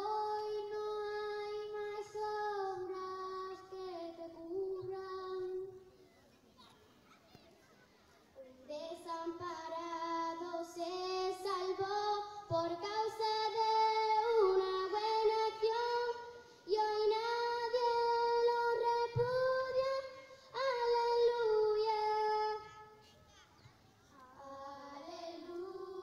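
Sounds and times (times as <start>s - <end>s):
girl singing into microphone: 0.0s - 5.9s, 8.4s - 26.0s.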